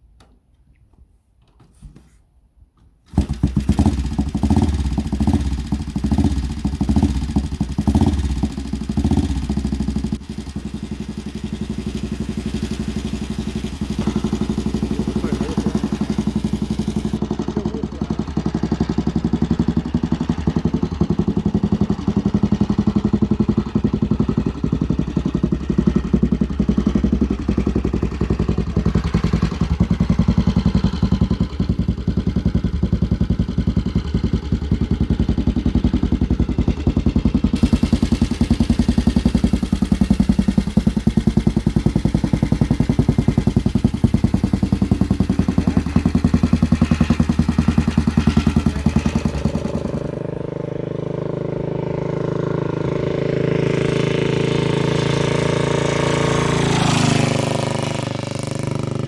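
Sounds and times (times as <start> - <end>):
motorcycle engine running: 3.1 - 59.0.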